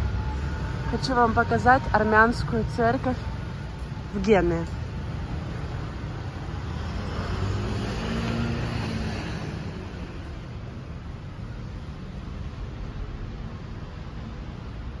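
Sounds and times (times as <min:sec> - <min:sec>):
car passing: 0:00.0 - 0:15.0
city traffic noise: 0:00.0 - 0:15.0.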